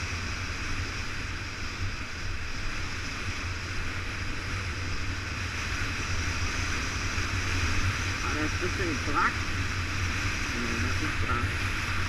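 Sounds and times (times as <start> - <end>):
wind rushing on microphone: 0.0 - 12.0.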